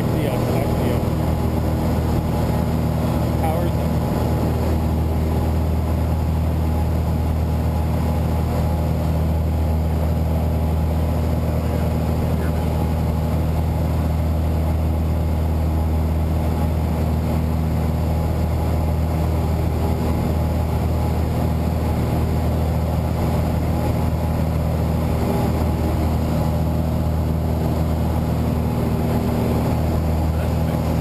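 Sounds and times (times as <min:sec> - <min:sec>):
light aircraft engine and propeller: 0:00.0 - 0:31.0.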